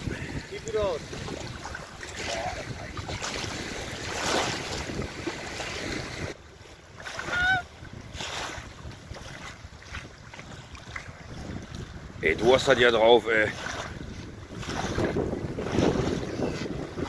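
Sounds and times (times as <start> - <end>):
wind on microphone: 0.0 - 6.4, 7.0 - 17.0
water lapping: 0.0 - 17.0.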